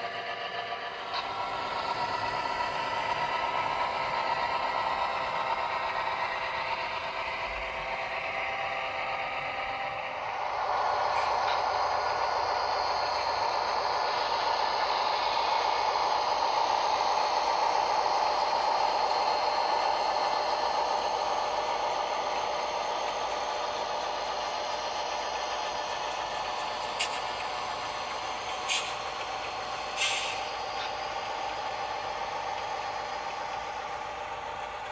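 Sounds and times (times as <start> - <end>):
model trains whirring and rattling: 0.0 - 34.9.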